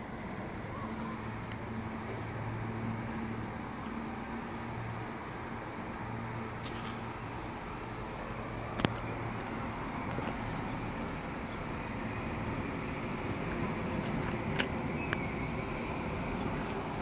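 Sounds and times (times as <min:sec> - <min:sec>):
city background noise: 0:00.0 - 0:17.0
distant helicopters rumbling: 0:00.0 - 0:17.0.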